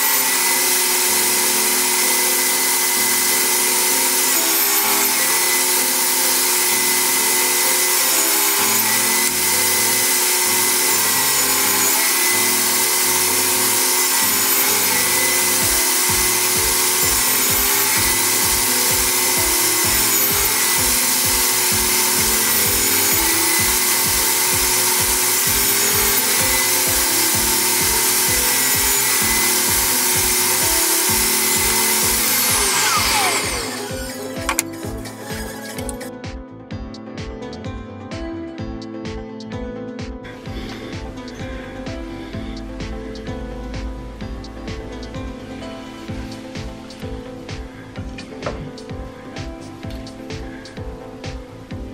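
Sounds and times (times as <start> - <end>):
power tool working wood: 0.0 - 36.1, 40.3 - 51.9
background music with steady beat: 0.0 - 51.9.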